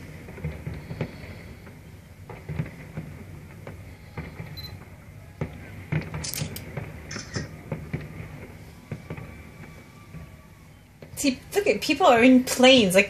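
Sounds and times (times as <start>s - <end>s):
distant fireworks pops and bangs: 0.0s - 13.0s
hissing crackles: 0.0s - 13.0s.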